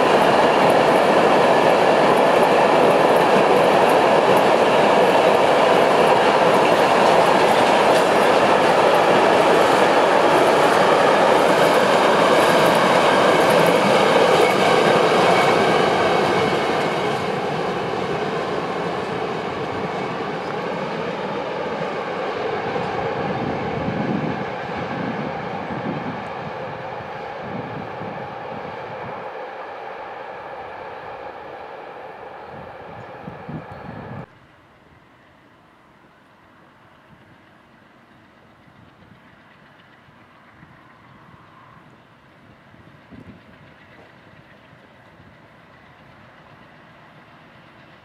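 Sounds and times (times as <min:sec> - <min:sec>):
freight train rolling on rails: 0:00.0 - 0:48.0.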